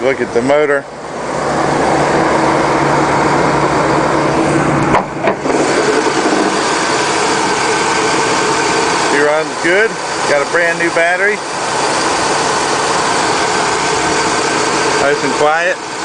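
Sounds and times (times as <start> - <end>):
vee eight engine idling: 0.0 - 16.0.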